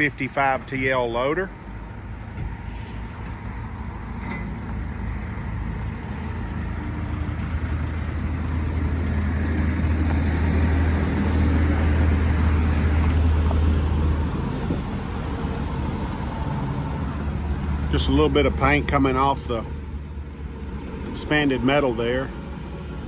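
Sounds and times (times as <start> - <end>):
tractor diesel engine idling: 0.0 - 23.0.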